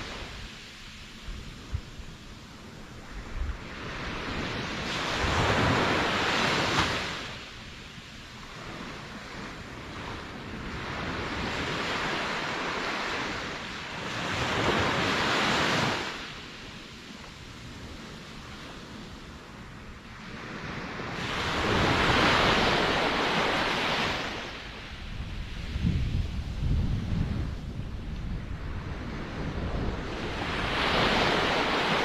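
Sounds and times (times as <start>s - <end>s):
ocean waves washing in: 0.0s - 32.0s.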